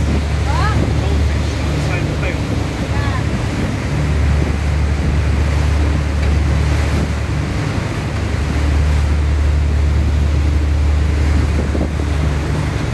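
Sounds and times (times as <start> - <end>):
boat engine drone: 0.0 - 12.9
water rushing in wake: 0.0 - 12.9
wind buffeting microphone: 0.0 - 12.9.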